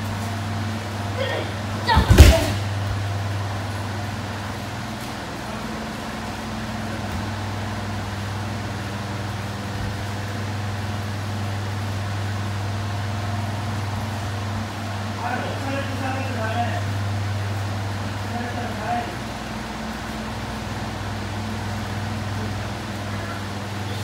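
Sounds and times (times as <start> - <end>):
electric fans humming: 0.0 - 24.0.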